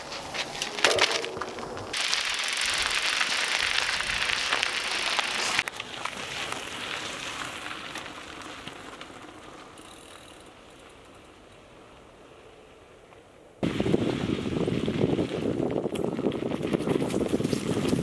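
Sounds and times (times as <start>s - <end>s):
bike tyre crunching on gravel: 0.0s - 18.0s.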